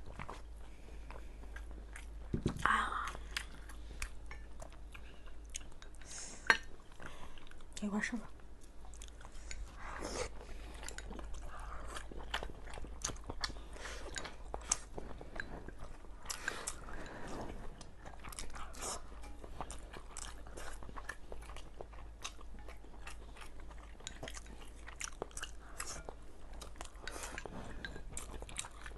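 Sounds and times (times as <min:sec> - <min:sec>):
close-up chewing: 0:00.0 - 0:28.9.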